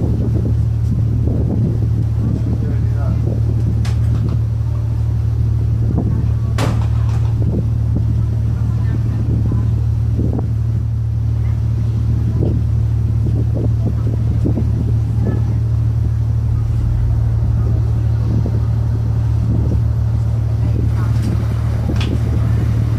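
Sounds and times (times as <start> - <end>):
ship engines droning: 0.0 - 22.9
faint voices: 4.2 - 22.9.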